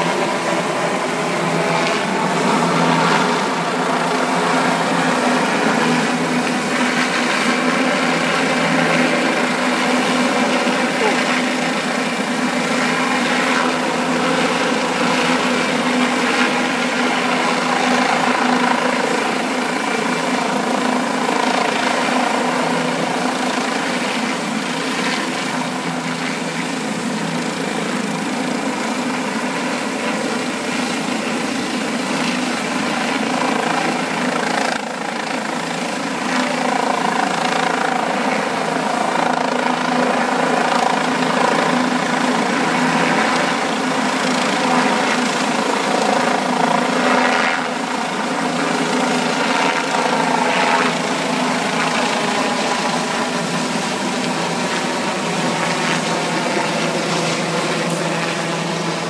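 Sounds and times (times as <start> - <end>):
helicopter hovering: 0.0 - 59.0.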